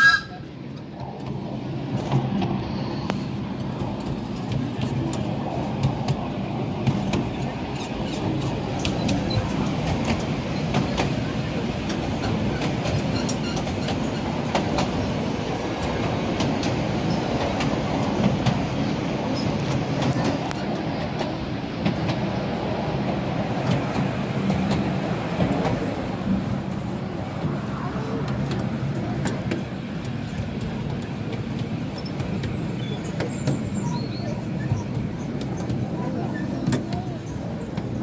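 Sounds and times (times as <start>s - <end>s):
train carriage rumble: 0.0s - 38.0s.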